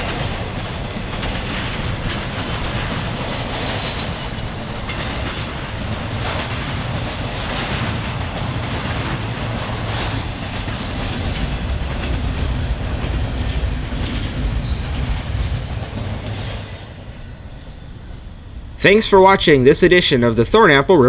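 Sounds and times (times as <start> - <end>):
train wheels rumbling on rail: 0.0 - 19.9.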